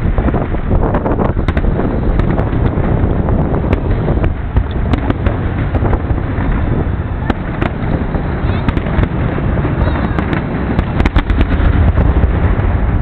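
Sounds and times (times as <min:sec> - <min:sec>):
fireworks rumble and crackles: 0:00.0 - 0:13.0
wind buffeting microphone: 0:00.0 - 0:13.0.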